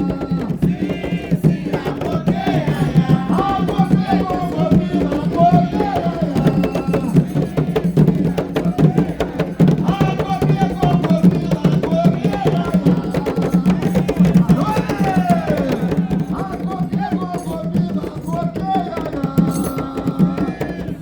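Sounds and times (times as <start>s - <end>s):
hand drums playing: 0.0s - 21.0s
voices singing: 0.0s - 21.0s.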